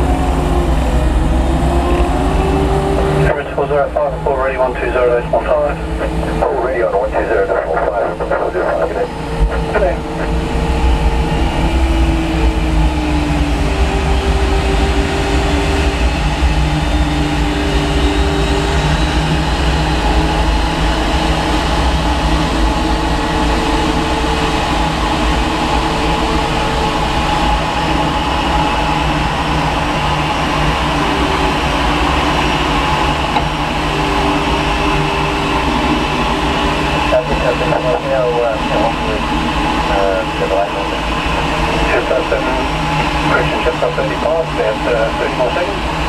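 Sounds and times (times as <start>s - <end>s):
aircraft and tug deep rumble: 0.0s - 46.0s
humming tones shifting pitch: 0.0s - 46.0s.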